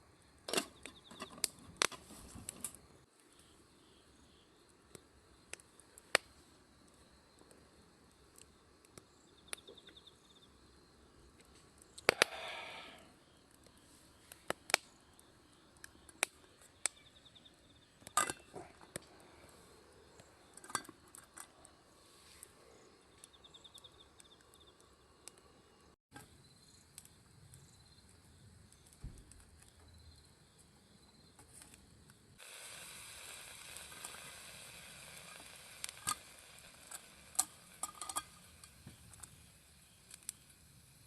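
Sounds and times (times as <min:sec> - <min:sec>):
insects chirping in trills: 0:00.0 - 0:41.0.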